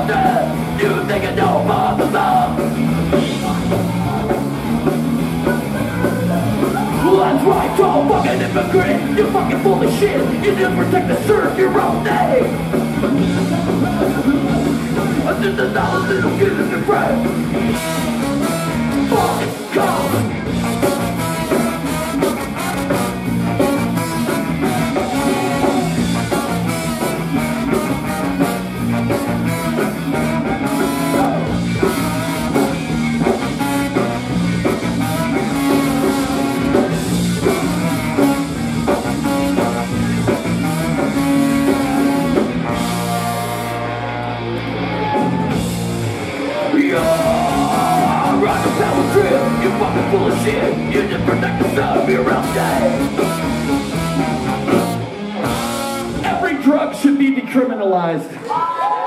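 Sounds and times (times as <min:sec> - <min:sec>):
live ska-punk band: 0:00.0 - 0:57.2
baritone saxophone: 0:05.4 - 0:44.5, 0:46.9 - 0:56.4.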